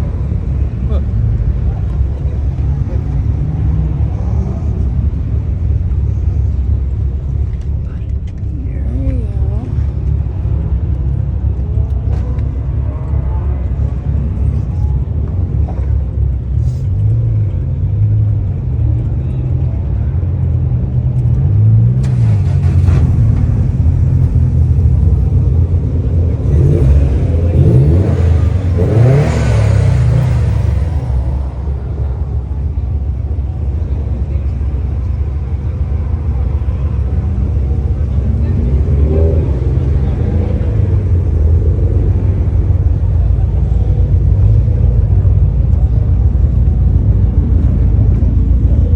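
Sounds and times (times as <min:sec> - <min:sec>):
car engine running and revving: 0:00.0 - 0:48.9.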